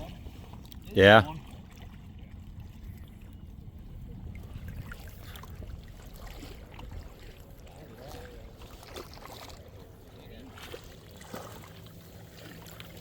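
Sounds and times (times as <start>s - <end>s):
lake water lapping: 0.0s - 13.0s.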